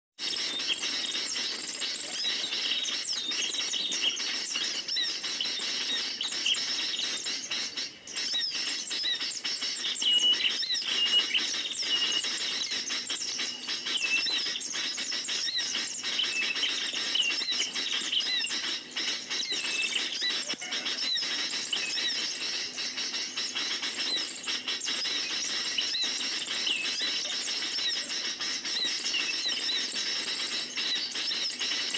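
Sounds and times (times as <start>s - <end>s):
flock of small birds chirping: 0.2s - 31.9s.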